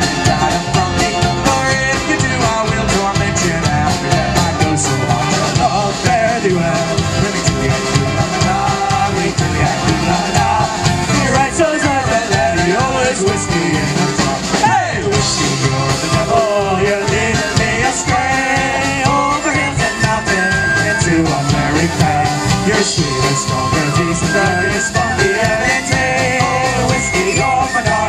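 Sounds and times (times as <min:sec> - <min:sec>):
bass: 0:00.0 - 0:28.0
ornamented folk melody: 0:00.0 - 0:28.0
steady drum beat: 0:00.0 - 0:28.0.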